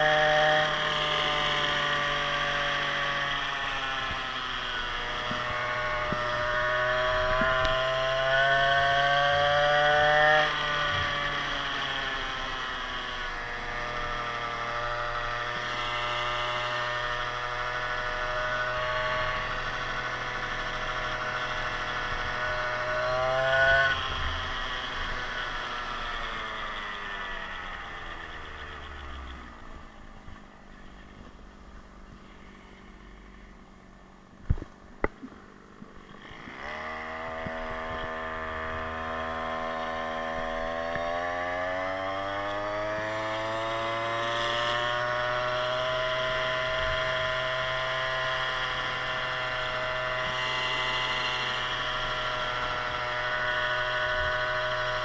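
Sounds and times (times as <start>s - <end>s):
two-stroke scooter engine: 0.0s - 55.0s.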